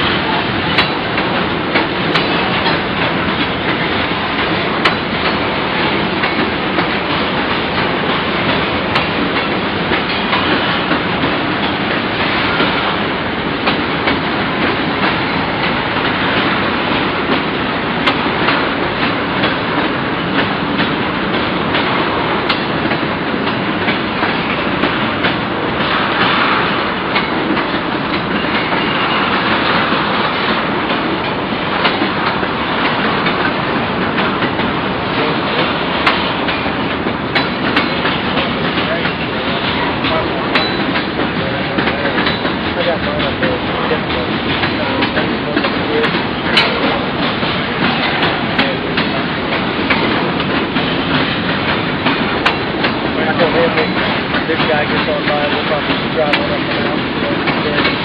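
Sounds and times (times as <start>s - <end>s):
freight train wheels rumbling: 0.0s - 58.0s
wheels clickety-clack: 0.0s - 58.0s.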